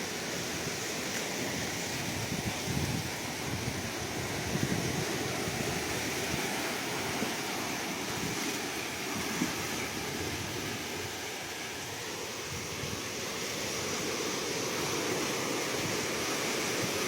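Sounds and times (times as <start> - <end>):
waves washing on shore: 0.0 - 17.0.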